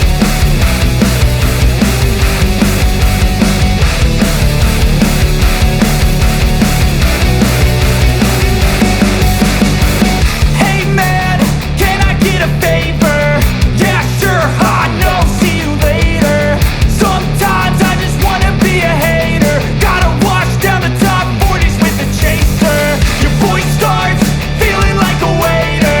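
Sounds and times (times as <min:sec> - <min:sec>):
loud rock music: 0:00.0 - 0:26.0.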